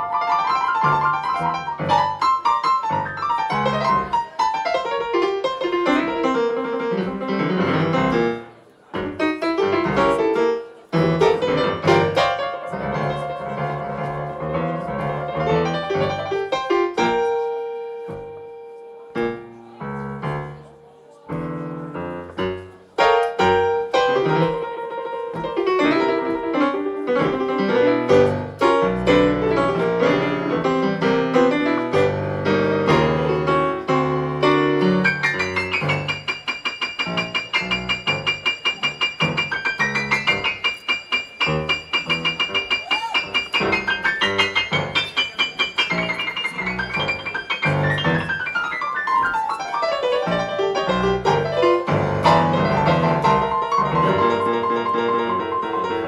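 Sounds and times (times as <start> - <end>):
blues piano: 0.0 - 56.0.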